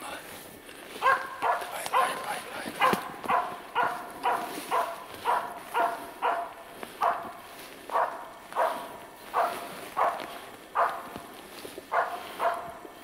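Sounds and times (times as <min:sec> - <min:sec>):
dog barking: 0:01.0 - 0:11.2, 0:11.9 - 0:12.8.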